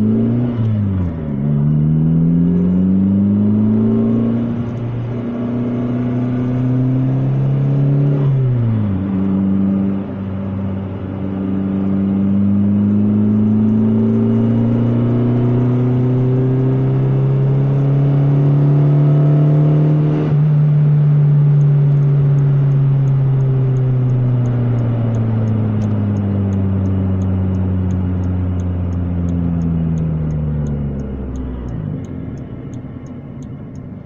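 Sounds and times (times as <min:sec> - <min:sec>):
car engine revving from inside: 0:00.0 - 0:34.0.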